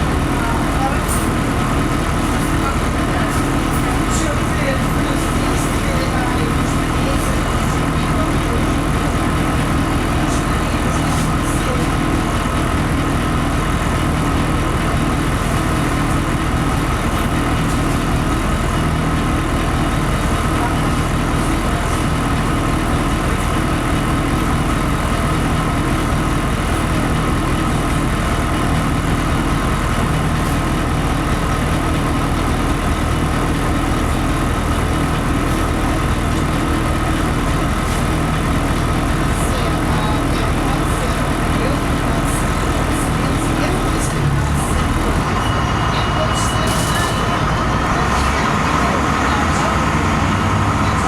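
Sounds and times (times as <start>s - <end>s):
bus engine drone: 0.0s - 51.0s.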